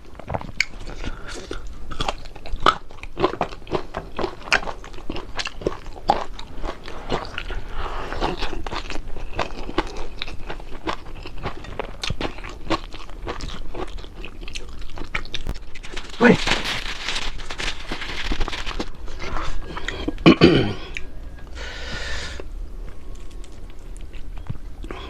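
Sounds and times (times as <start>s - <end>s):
person chewing crispy food: 0.0s - 25.0s.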